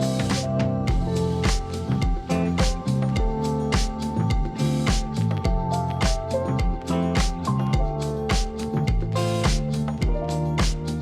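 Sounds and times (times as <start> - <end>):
steady kick drum beat: 0.0 - 11.0.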